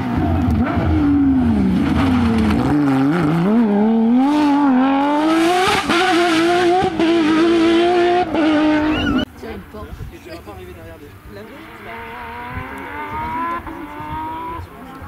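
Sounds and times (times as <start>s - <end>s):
rally car engine revving: 0.0s - 9.3s, 11.5s - 15.0s.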